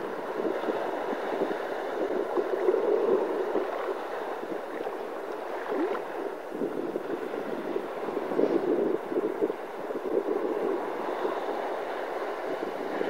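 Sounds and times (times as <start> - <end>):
waves splashing around rocks: 0.0 - 13.0.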